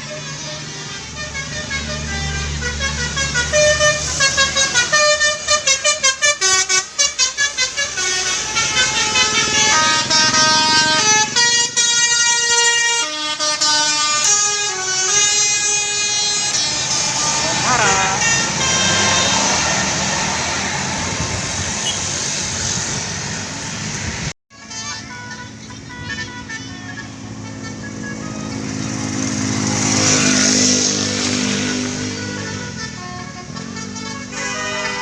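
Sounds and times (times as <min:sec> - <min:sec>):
musical bus air horns: 0:00.0 - 0:20.1, 0:24.5 - 0:35.0
bus engine rumbling: 0:00.0 - 0:35.0.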